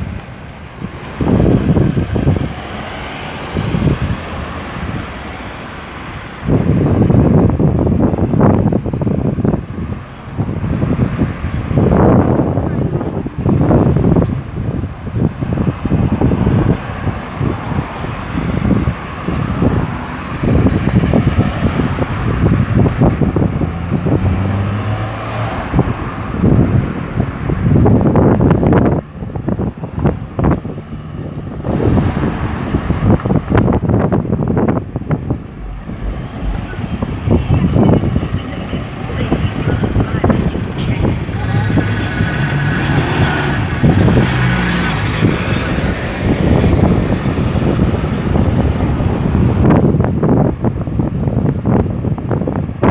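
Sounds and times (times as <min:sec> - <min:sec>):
road traffic passing: 0:00.0 - 0:52.9
wind buffeting microphone: 0:00.0 - 0:52.9
steady engine hum: 0:06.7 - 0:52.7.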